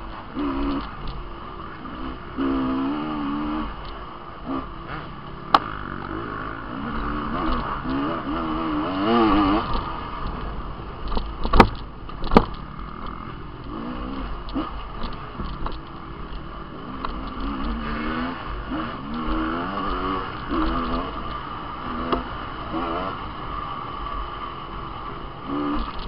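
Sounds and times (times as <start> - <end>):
dirt bike engine revving: 0.0 - 10.6, 12.4 - 26.0.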